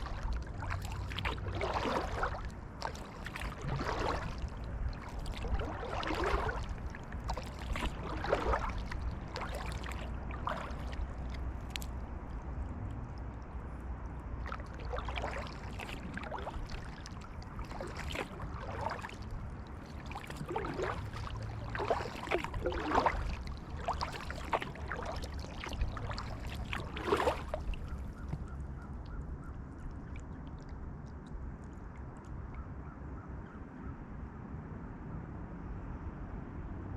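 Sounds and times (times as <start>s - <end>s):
paddle splashing in water: 0.0s - 32.5s
low steady rumble: 0.0s - 36.9s.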